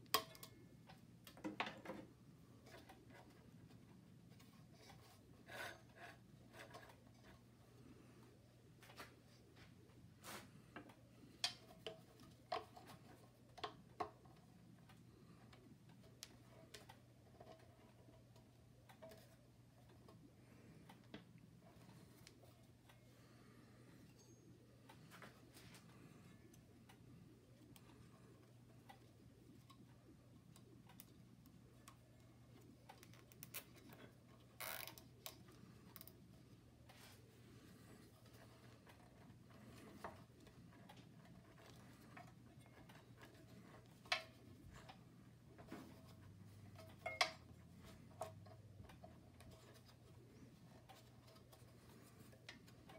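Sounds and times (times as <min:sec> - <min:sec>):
low steady hum: 0:00.0 - 0:52.9.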